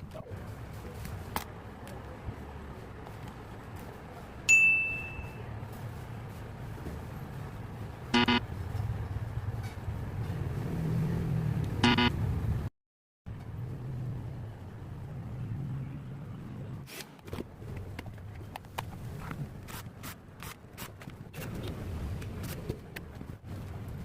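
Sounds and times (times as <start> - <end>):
road traffic rumble: 0.0 - 12.7, 13.3 - 24.0.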